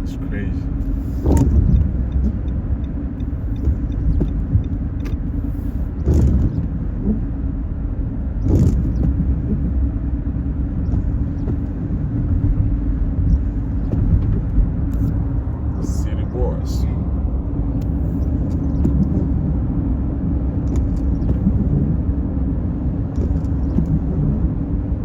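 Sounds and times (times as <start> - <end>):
car interior engine and tyre rumble: 0.0 - 25.0.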